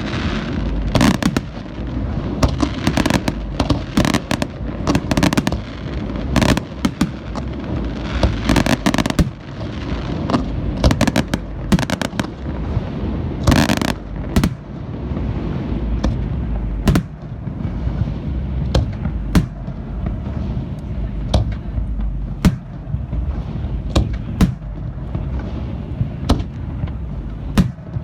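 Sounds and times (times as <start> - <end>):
fireworks bursting: 0.0 - 28.0
fireworks crackling: 0.0 - 28.0
low rumble: 0.0 - 28.0.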